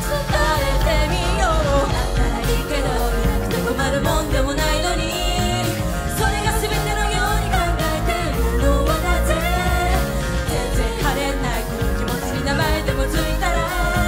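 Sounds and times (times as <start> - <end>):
band track with drum beat: 0.0 - 14.0
person singing: 0.0 - 14.0.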